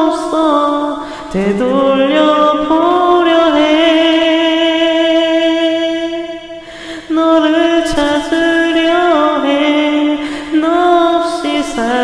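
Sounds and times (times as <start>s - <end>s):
person singing a long note: 0.0s - 12.0s.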